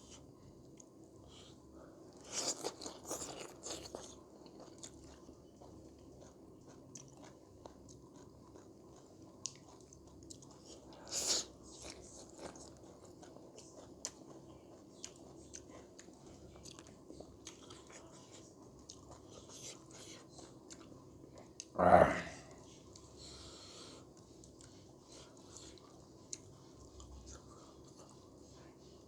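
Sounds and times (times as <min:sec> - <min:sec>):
chewing and crunching food: 0:00.0 - 0:21.8, 0:22.6 - 0:29.0.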